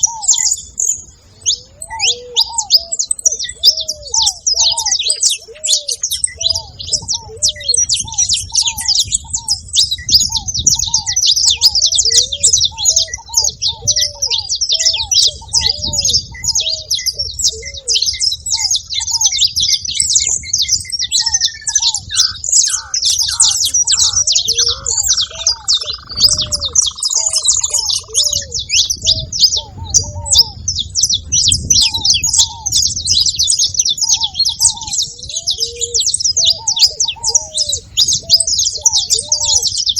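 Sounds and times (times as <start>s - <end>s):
dove cooing: 0.0s - 39.9s
finches chirping and twittering: 0.0s - 39.9s.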